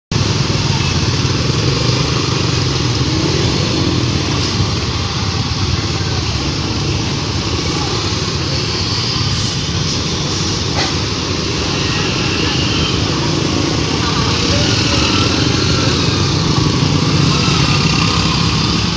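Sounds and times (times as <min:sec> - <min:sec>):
motor vehicle engines: 0:00.1 - 0:18.9
motorcycles: 0:00.1 - 0:18.9.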